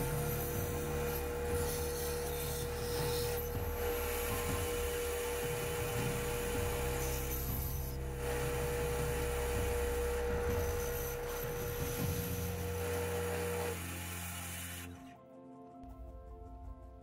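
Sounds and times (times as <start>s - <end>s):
band saw whining: 0.0s - 15.0s.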